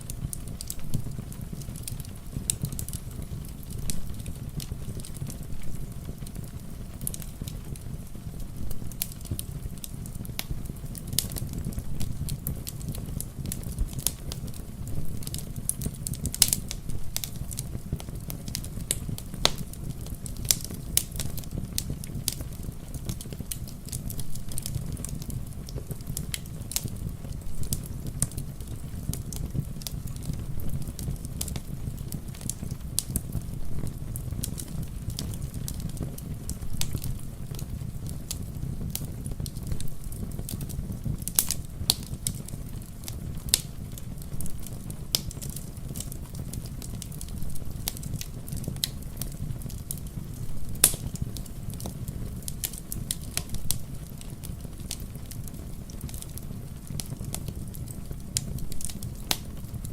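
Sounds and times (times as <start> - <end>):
rain pattering: 0.0 - 59.9
wood fire crackling and popping: 0.0 - 59.9.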